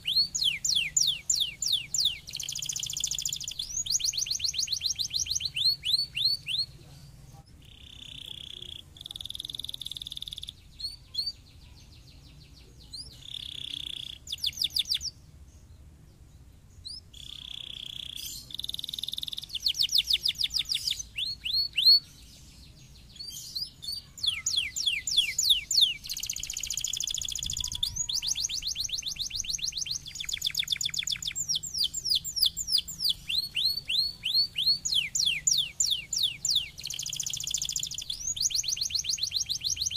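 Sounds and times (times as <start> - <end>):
canary singing: 0.0 - 15.3, 16.8 - 39.9.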